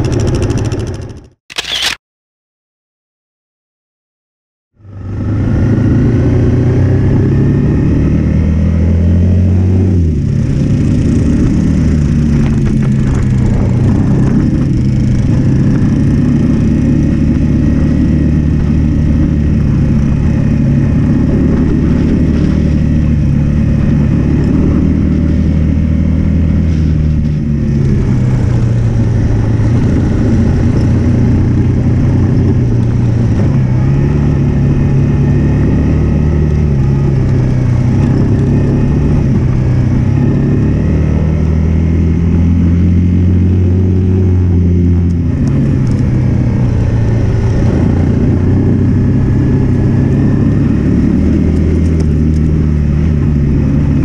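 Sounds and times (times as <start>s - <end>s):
motorbike engine running: 0.0s - 1.9s, 9.7s - 54.0s.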